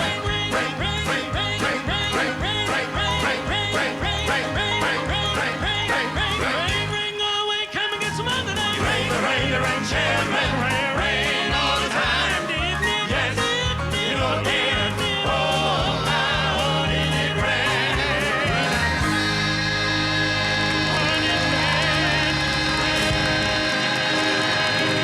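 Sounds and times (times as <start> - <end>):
walking bass line: 0.0 - 7.0, 8.2 - 25.0
drums: 0.0 - 7.2, 8.0 - 25.0
gospel group singing: 0.0 - 25.0
upbeat band: 0.0 - 25.0.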